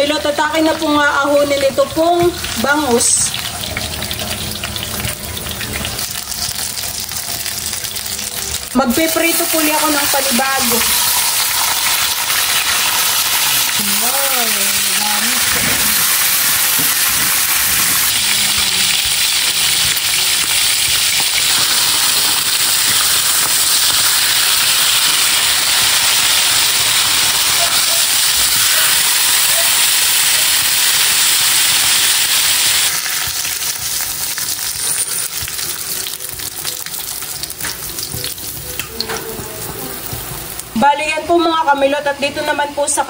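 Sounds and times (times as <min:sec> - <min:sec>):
fish frying in oil: 0:00.0 - 0:41.0.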